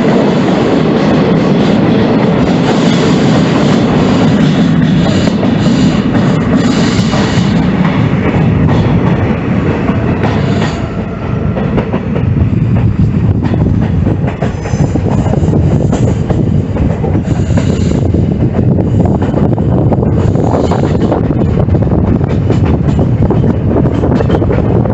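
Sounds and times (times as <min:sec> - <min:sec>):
train carriages rumbling: 0:00.0 - 0:24.9.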